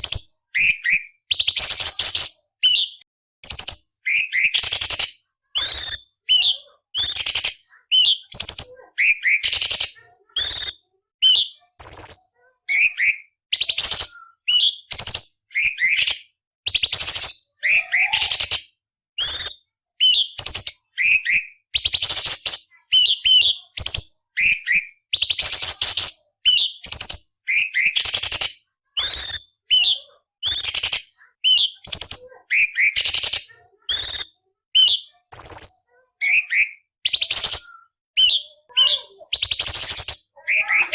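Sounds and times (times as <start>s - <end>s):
bird singing whistled notes: 0.0s - 40.9s.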